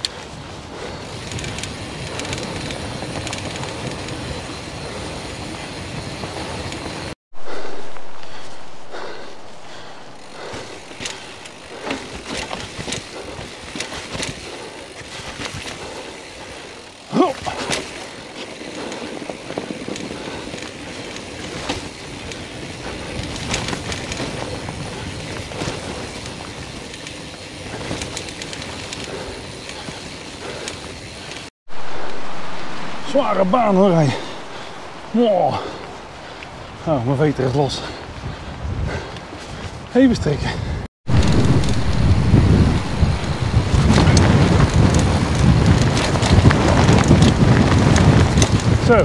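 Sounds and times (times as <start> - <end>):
bike rattling and clicking: 0.0 - 7.7, 8.3 - 31.5, 33.9 - 49.0
strong wind rushing: 0.0 - 16.2, 18.7 - 49.0.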